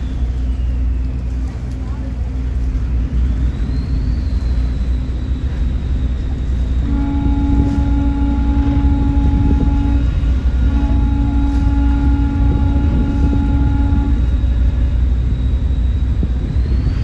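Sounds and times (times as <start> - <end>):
deep ship's horn blast: 0.0 - 16.3
boat engine rumbling: 0.0 - 17.0.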